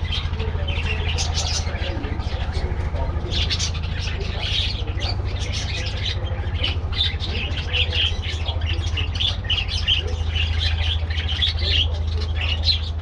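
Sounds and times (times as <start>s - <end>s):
budgerigars chirping and squawking: 0.0s - 13.0s
steady low hum: 0.0s - 13.0s.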